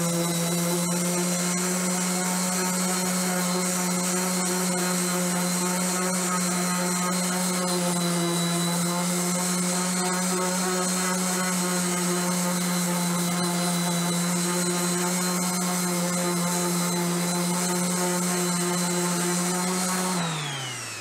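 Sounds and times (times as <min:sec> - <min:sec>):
orbital sander sanding wood: 0:00.0 - 0:21.0.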